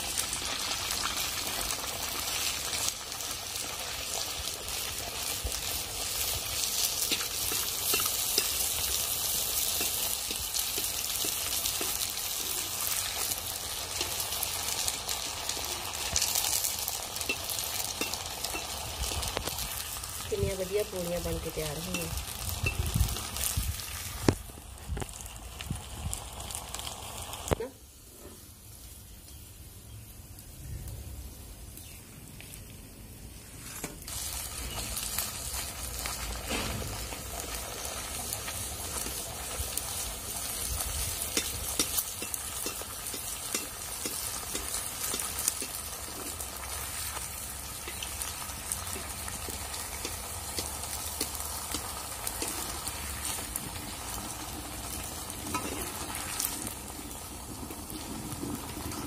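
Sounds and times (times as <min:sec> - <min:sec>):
oil sizzling while frying: 0:00.0 - 0:59.0.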